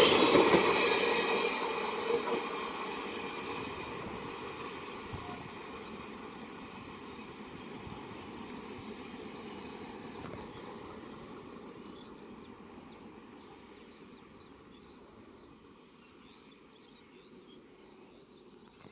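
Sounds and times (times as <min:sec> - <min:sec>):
passenger train running on rails: 0:00.0 - 0:18.9.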